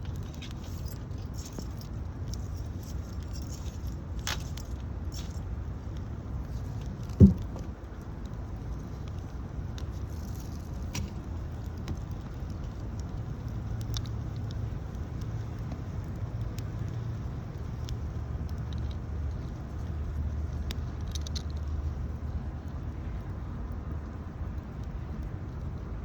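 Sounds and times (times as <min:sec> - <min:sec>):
campfire wood crackling: 0:00.0 - 0:26.0.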